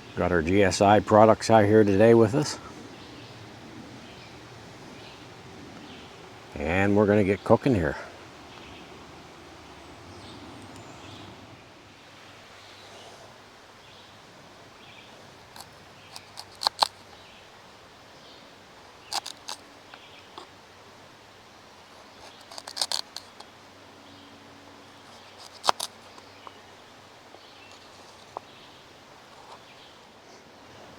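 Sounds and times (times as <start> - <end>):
quiet outdoor background: 0.0 - 30.9.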